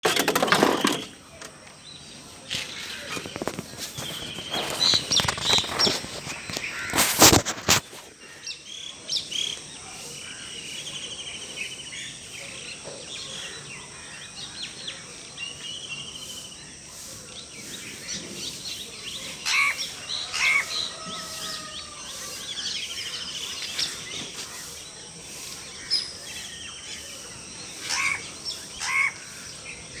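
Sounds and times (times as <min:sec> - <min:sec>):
birds chirping and calling: 0:00.1 - 0:30.0.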